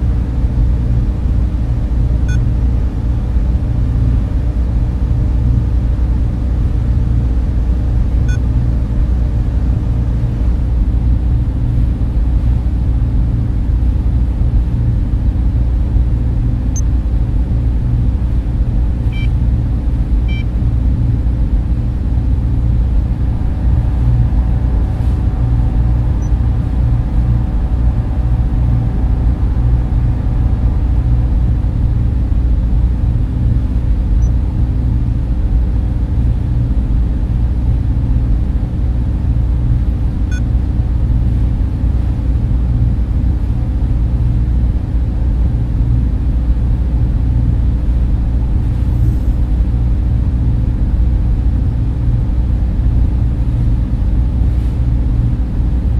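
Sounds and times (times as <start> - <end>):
server and cooling fans droning: 0.0 - 55.9.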